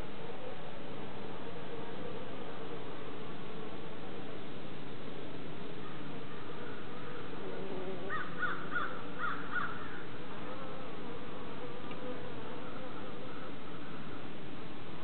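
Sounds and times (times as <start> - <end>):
bees humming: 0.0 - 15.0.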